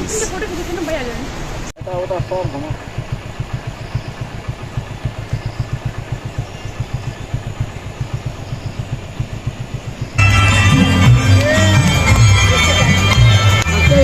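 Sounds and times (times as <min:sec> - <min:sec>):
engine idling: 0:01.6 - 0:14.0.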